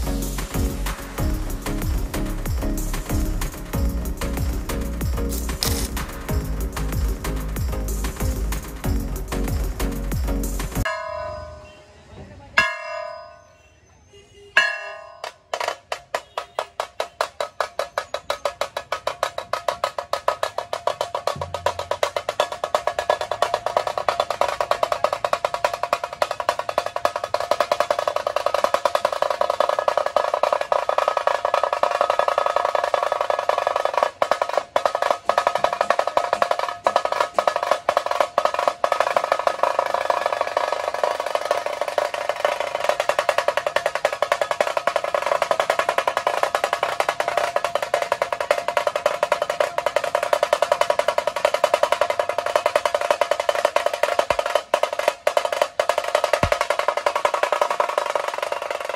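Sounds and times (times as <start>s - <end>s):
kettle drums rolling: 0.0s - 11.4s, 14.7s - 58.9s.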